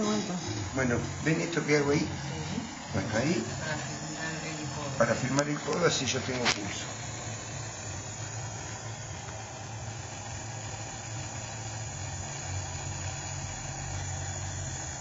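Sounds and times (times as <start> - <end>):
gas torch hissing: 0.0 - 15.0.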